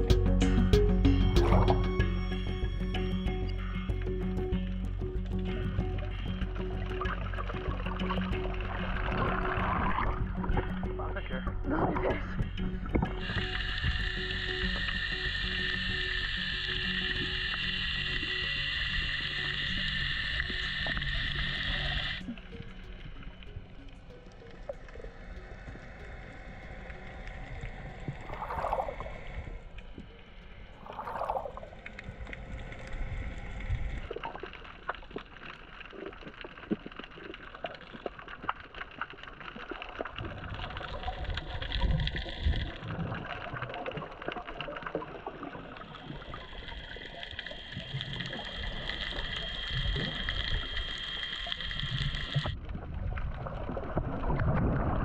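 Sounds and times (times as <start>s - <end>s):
muffled underwater water wash: 0.0s - 2.2s, 3.0s - 55.0s
underwater crackling: 3.6s - 55.0s.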